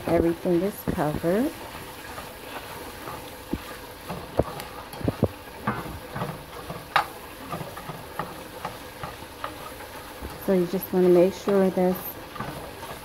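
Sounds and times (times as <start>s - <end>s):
metal spatula scraping skillet: 0.0s - 13.0s.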